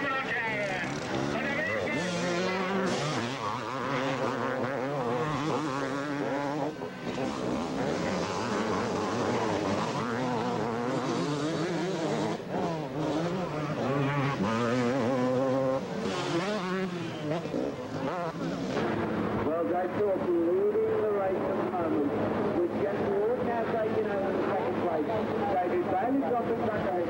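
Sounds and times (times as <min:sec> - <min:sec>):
motocross bikes racing: 0:00.0 - 0:27.0.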